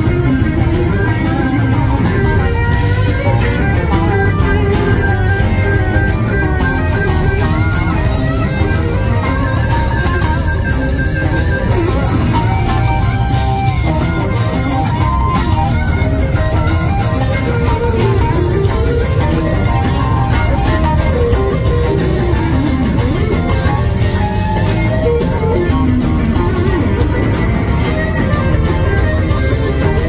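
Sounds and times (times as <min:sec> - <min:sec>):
blues-rock band playing: 0:00.0 - 0:30.0
electric guitar lead line: 0:00.0 - 0:30.0.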